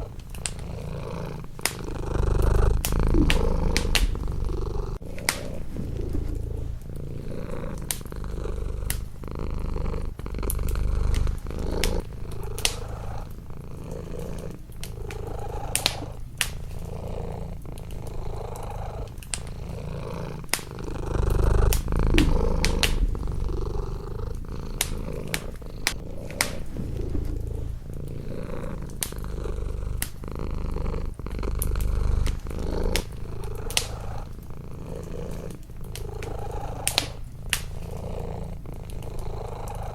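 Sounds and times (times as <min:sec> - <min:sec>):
wood fire crackling: 0:00.0 - 0:39.7
cat purring: 0:00.0 - 0:39.9.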